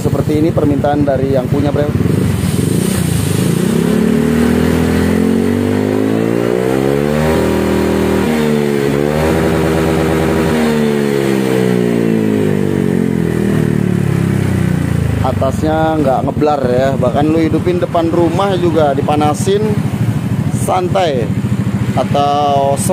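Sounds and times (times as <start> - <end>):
scooter engine revving: 0.0 - 22.9.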